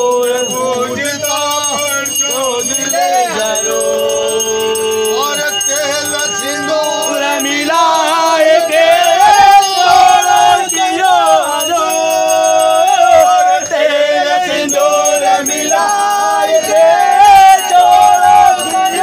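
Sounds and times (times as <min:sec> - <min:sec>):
jingling bell percussion: 0:00.0 - 0:19.0
man singing: 0:00.0 - 0:19.0.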